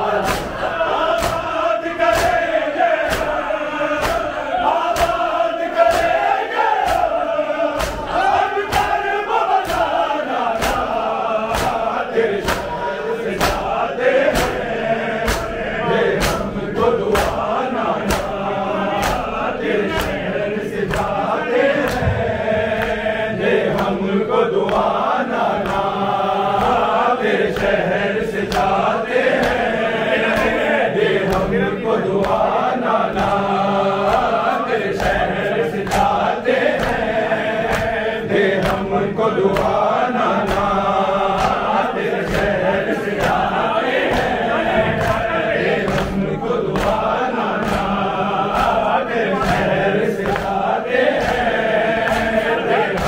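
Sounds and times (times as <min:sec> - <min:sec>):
men chanting in unison: 0:00.0 - 0:53.0
hands slapping bare chests: 0:00.1 - 0:24.0, 0:24.6 - 0:30.6, 0:31.2 - 0:31.6, 0:32.2 - 0:53.0.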